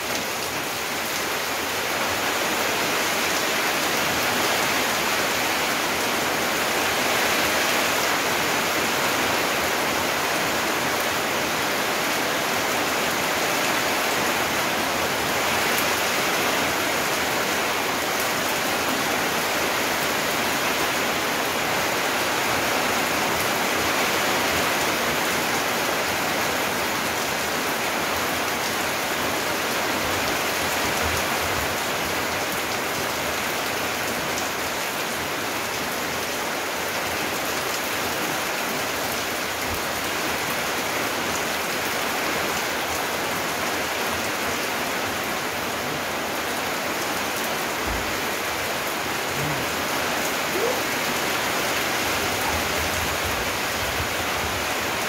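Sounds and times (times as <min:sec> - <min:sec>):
steady rain on foliage and concrete: 0:00.0 - 0:55.0.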